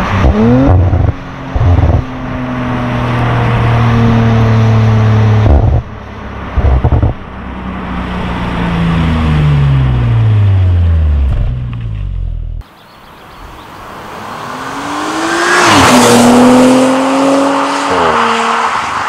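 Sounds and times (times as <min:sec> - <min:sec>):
car engine and exhaust revving: 0:00.0 - 0:12.6, 0:13.5 - 0:19.0.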